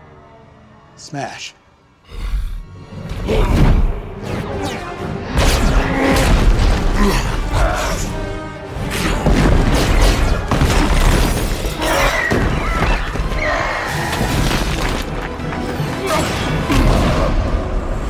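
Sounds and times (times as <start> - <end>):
orchestral score: 0.0 - 18.0.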